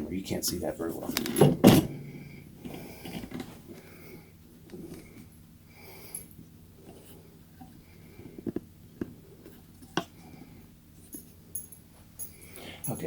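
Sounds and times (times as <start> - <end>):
soft rubbing handling noise: 0.3 - 5.4, 6.1 - 13.0.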